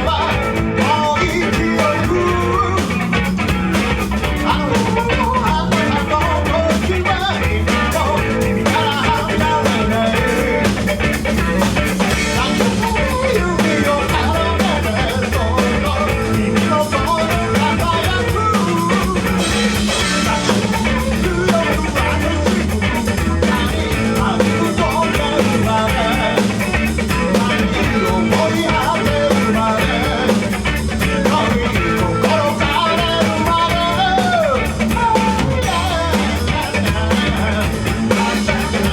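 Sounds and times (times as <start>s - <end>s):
person singing: 0.0s - 3.2s, 4.2s - 38.9s
drum kit: 0.0s - 38.9s
guitar: 0.0s - 38.9s.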